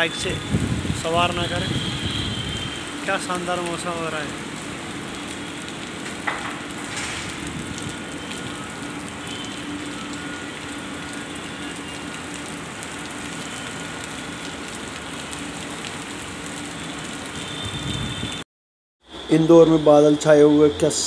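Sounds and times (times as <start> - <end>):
rain falling on paving and grass: 0.0 - 18.4.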